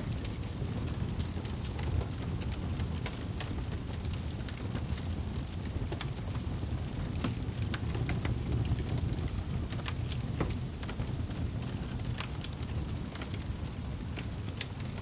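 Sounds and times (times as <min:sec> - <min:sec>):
low rumble of flames: 0:00.0 - 0:15.0
wood fire crackling: 0:00.0 - 0:15.0
pops and snaps of firewood: 0:00.9 - 0:06.4, 0:07.0 - 0:13.4, 0:14.2 - 0:15.0.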